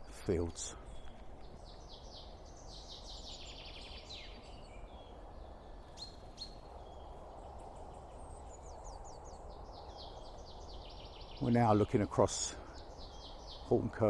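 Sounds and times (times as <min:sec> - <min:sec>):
songbirds singing and chirping: 0:00.0 - 0:14.0
steady low background hiss: 0:00.0 - 0:14.0.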